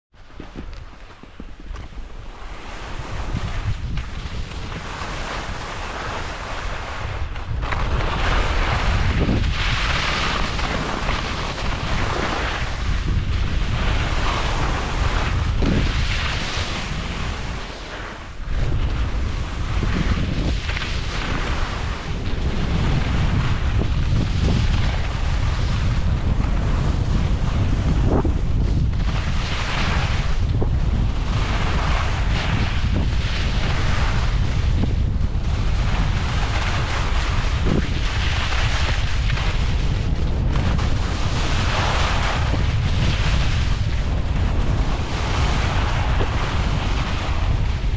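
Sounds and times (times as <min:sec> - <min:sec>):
wind on microphone: 0:00.1 - 0:47.9
skis carving on packed snow: 0:00.2 - 0:47.9.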